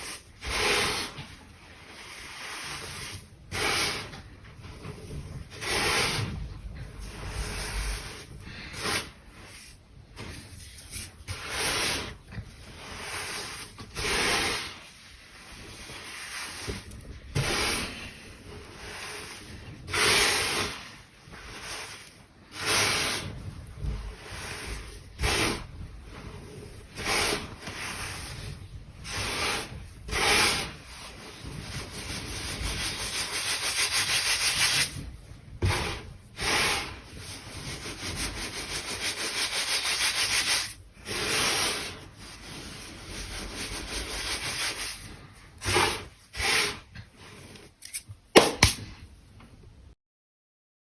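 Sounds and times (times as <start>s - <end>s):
baking soda being crushed and rubbed: 0.0s - 49.0s.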